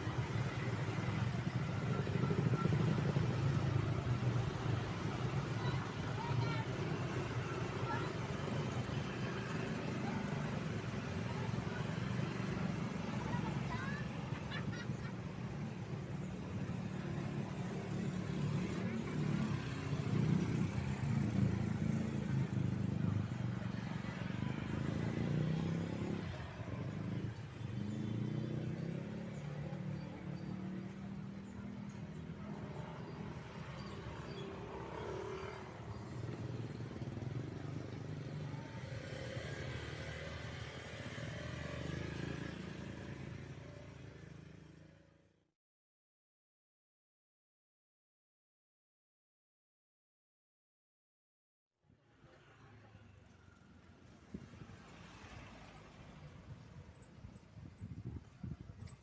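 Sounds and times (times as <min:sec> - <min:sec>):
vehicle engines in traffic: 0:00.0 - 0:45.4, 0:51.9 - 0:59.0.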